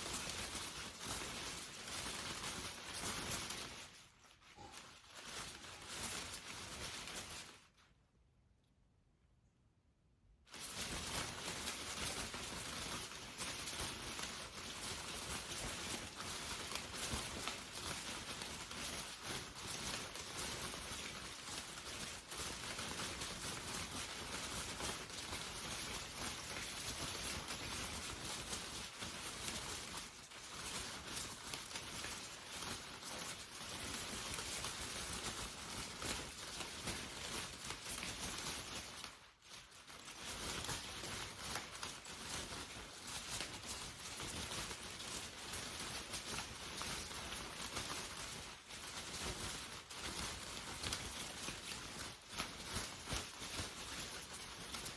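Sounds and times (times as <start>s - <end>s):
rain pattering on an umbrella: 0.0s - 7.8s, 10.5s - 54.9s.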